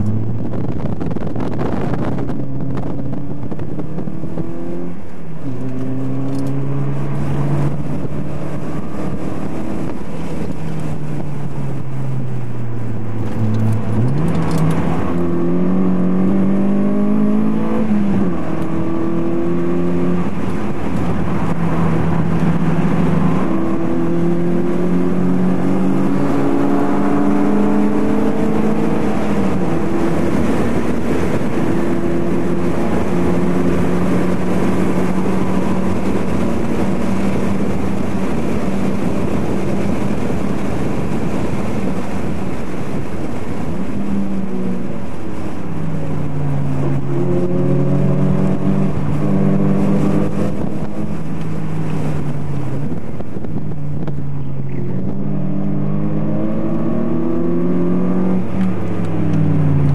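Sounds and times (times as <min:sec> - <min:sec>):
racing car engine: 0:00.0 - 0:59.9
road and wind noise: 0:00.0 - 0:59.9.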